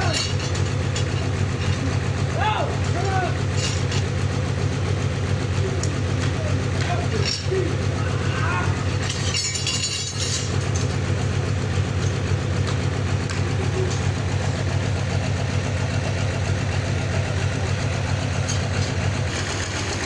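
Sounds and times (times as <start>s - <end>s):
sawmill machinery humming: 0.0s - 20.0s.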